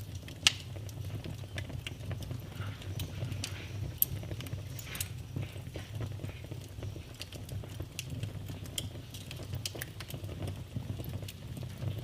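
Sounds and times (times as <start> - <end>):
flames rumbling: 0.0 - 12.0
wood fire crackling: 0.0 - 12.0.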